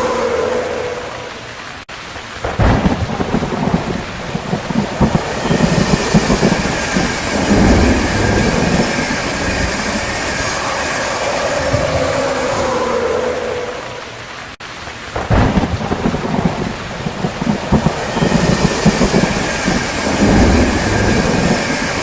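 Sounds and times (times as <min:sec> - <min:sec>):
steady rain: 0:00.0 - 0:22.0
rolling thunder rumble: 0:02.3 - 0:14.4, 0:15.0 - 0:22.0.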